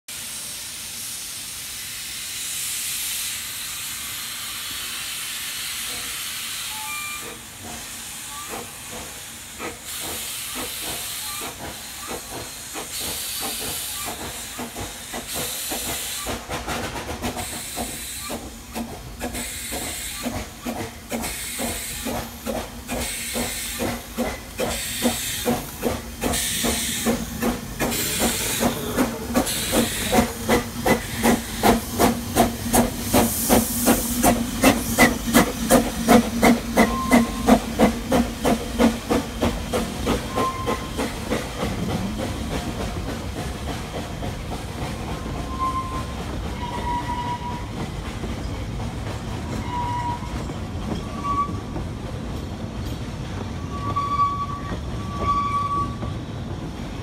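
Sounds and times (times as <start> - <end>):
hiss of escaping steam: 0.1 - 49.5
steam locomotive exhaust beats: 0.1 - 57.0.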